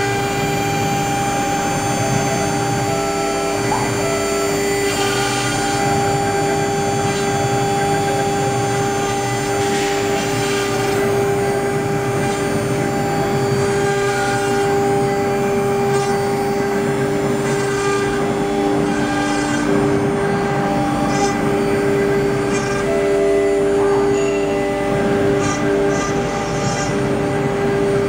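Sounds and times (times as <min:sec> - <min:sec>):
router spindles whining: 0:00.0 - 0:28.0.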